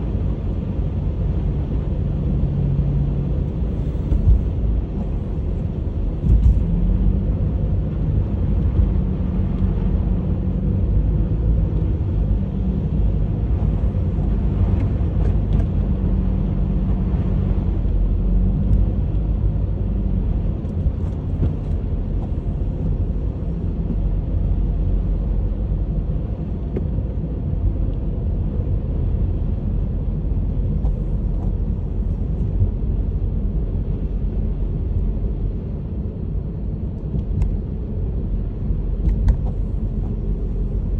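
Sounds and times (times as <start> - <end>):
car engine rumbling: 0.0 - 40.9.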